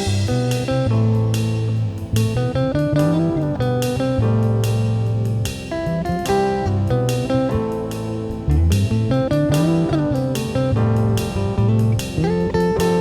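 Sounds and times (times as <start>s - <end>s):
guitar picking plucked notes: 0.0s - 13.0s
sustained low bass notes: 0.0s - 13.0s.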